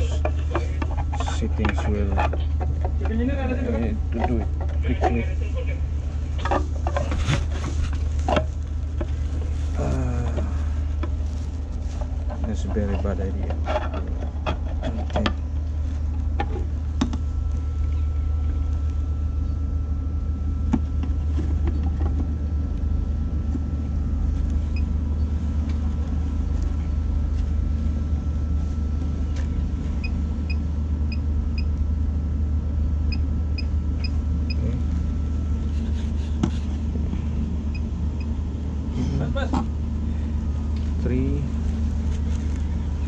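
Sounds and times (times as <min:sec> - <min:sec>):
faint steady whine: 0:00.0 - 0:43.0
low machinery drone: 0:00.0 - 0:43.0.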